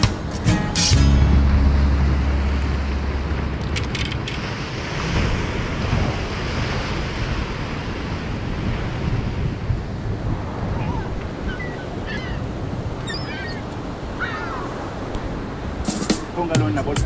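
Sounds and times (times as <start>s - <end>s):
surf breaking on rocky shore: 0.0s - 17.0s
wind buffeting microphone: 1.2s - 15.9s.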